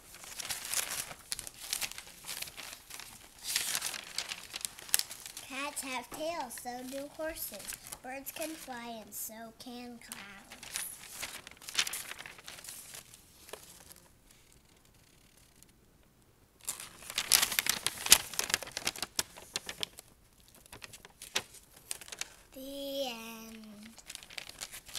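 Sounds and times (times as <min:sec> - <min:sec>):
paper pages rustling: 0:00.0 - 0:09.0, 0:10.0 - 0:14.0, 0:16.6 - 0:24.9.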